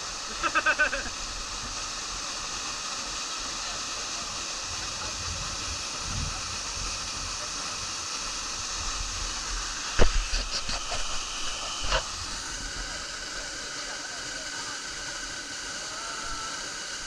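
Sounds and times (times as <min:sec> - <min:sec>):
small waterfall rushing: 0:00.0 - 0:17.0.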